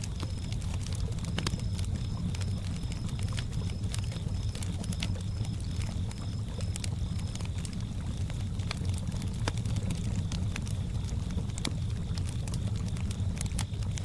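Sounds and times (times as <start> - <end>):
campfire crackling: 0.0 - 14.0
crickets chirping: 0.0 - 14.0.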